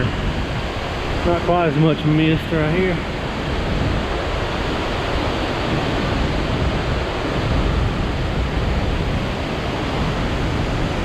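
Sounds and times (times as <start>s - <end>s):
waterfall crashing: 0.0s - 11.0s.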